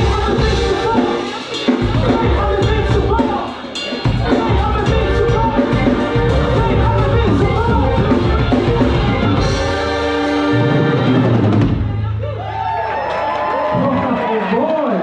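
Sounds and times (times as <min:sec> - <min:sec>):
drum kit beat: 0:00.0 - 0:12.3.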